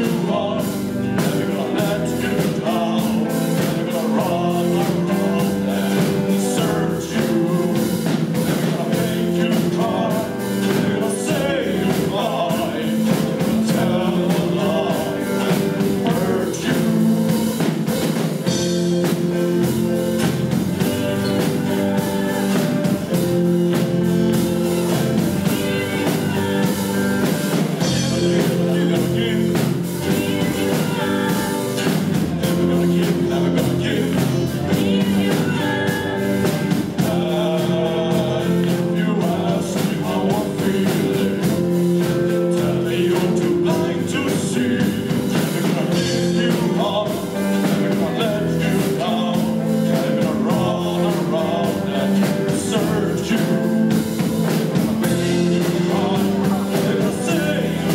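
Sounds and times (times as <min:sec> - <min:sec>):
live rock band playing: 0:00.0 - 0:57.9
men singing: 0:00.0 - 0:57.9.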